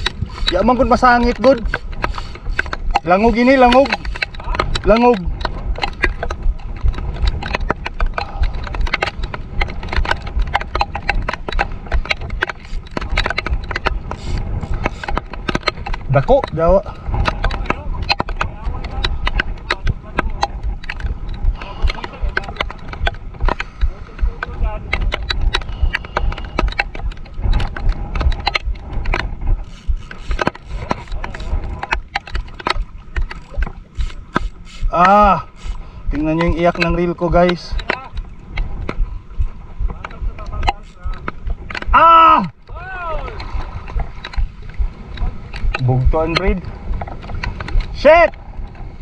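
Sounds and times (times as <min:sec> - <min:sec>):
fishing reel clicking and rattling: 0:00.0 - 0:49.0
low wind rumble: 0:00.0 - 0:49.0.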